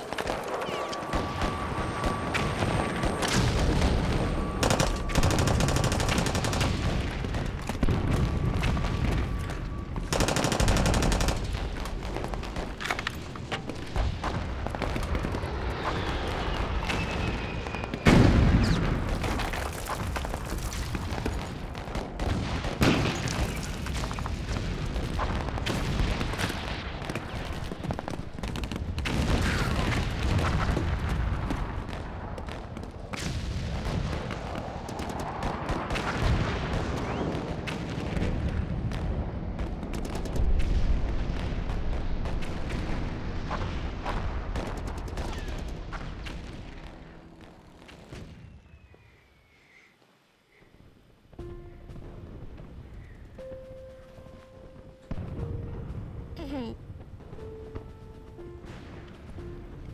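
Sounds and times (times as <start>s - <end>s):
rumble of gunfire and explosions: 0.0s - 59.9s.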